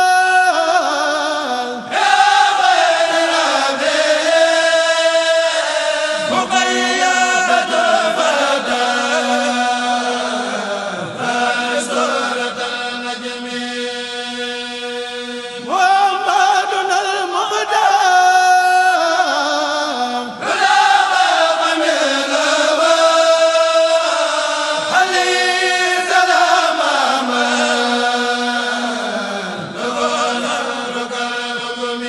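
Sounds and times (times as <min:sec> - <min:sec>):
person chanting: 0:00.0 - 0:32.0.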